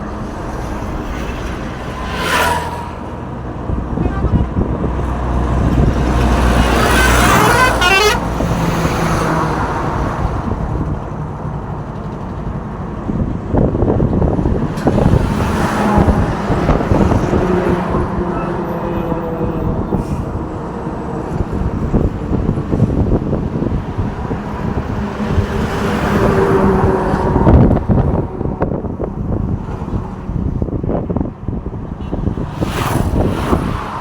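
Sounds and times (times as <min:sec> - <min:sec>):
trucks driving past: 0:00.0 - 0:34.0
wind buffeting microphone: 0:00.0 - 0:34.0.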